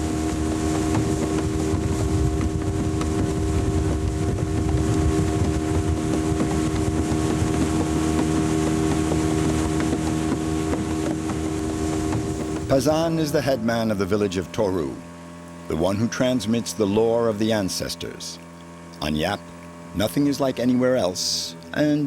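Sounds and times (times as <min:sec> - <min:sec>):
motorboat engine hum: 0:00.0 - 0:22.0
rushing water: 0:00.0 - 0:22.0
wind: 0:00.0 - 0:22.0.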